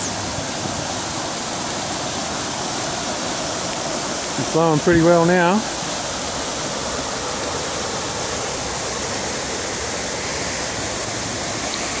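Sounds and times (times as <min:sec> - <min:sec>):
floodwater roaring from pipes: 0:00.0 - 0:12.0.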